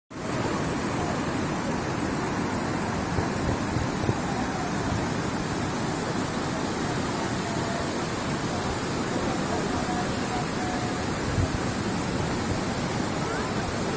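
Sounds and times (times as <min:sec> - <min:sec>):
stream water rushing: 0:00.1 - 0:13.9.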